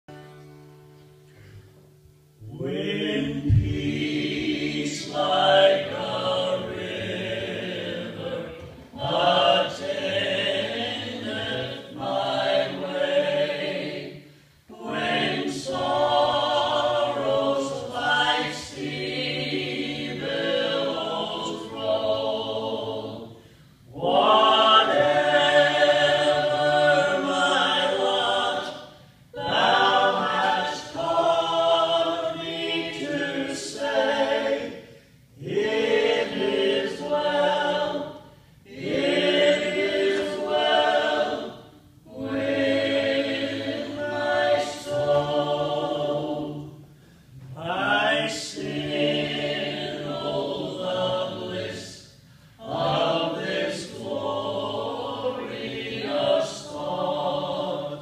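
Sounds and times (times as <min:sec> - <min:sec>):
group singing in harmony: 0:02.4 - 0:58.0.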